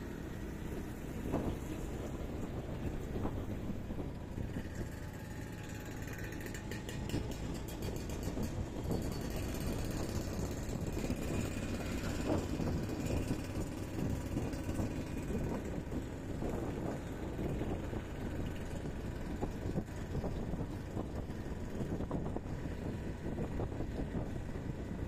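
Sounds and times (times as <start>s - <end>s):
motorbike engine running: 0.0s - 25.0s
wind and road noise: 0.0s - 25.0s.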